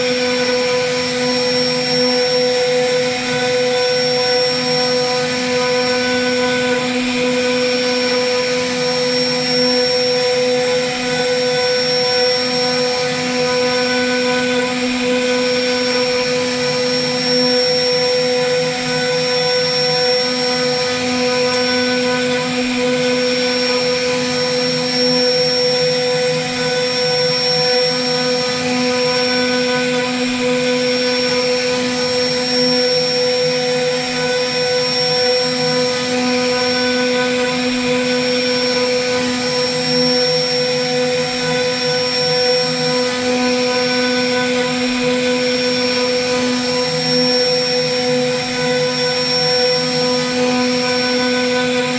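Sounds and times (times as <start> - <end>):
cnc router spindle whining: 0.0 - 51.9
router bit carving wood: 0.0 - 51.9.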